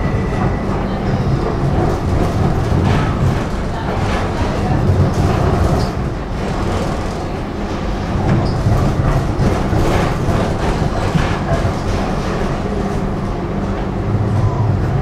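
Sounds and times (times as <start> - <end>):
clatter over track: 0.0 - 15.0
tram wheels rumbling: 0.0 - 15.0.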